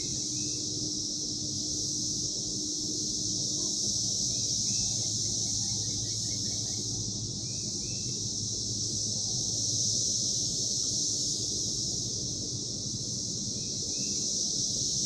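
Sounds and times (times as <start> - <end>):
cicadas droning in chorus: 0.0 - 15.0.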